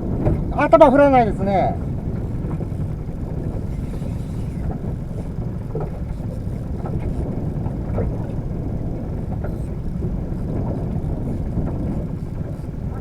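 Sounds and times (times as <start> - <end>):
water noise: 0.0 - 13.0
wind: 0.0 - 13.0
faint ticks: 1.8 - 13.0.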